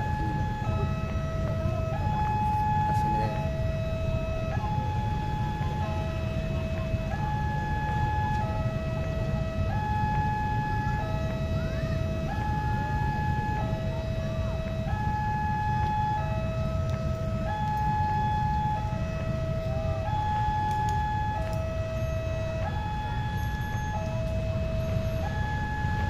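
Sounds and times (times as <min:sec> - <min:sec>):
two-tone crossing warning alarm: 0:00.0 - 0:26.0.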